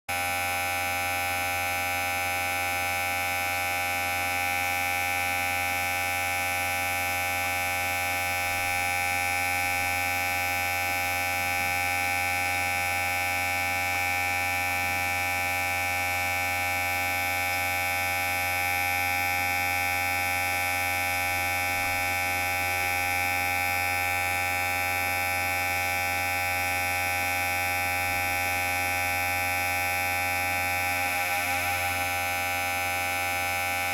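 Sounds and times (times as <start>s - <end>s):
electric hair clipper buzzing: 0.1s - 33.9s.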